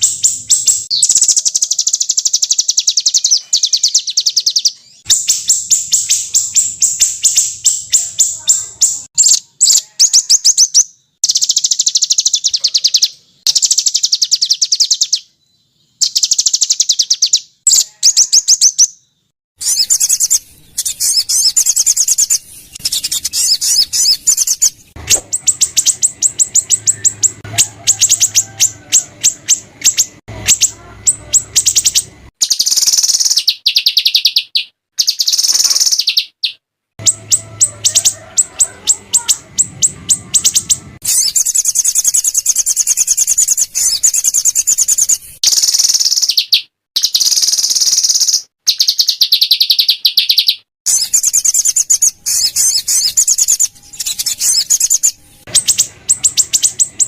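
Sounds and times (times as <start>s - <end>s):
songbirds singing rapid trills: 0.0s - 57.0s.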